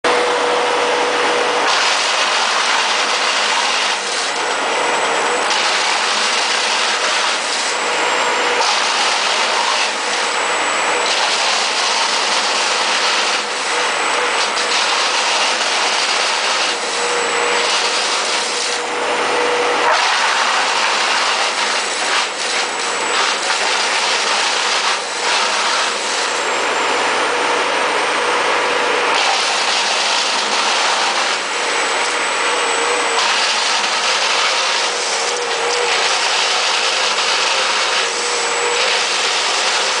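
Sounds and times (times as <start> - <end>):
wood chipper running: 0.0 - 40.0.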